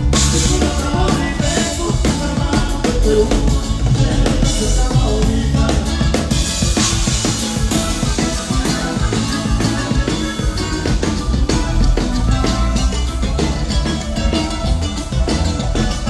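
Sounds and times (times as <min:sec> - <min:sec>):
accordion: 0:00.0 - 0:16.0
bass: 0:00.0 - 0:16.0
drum kit beat: 0:00.0 - 0:16.0.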